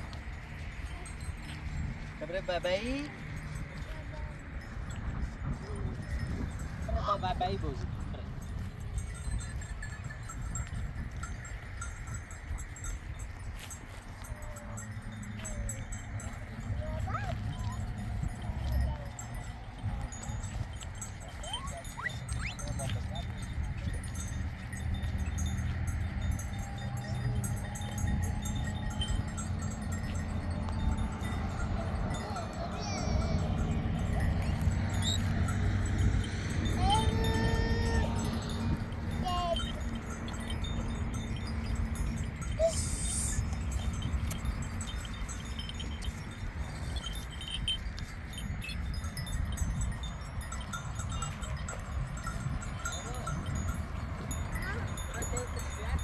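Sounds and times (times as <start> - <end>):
small bells tinkling: 0.0 - 56.0
steady low rumble: 0.0 - 56.0
wind on microphone: 2.9 - 56.0.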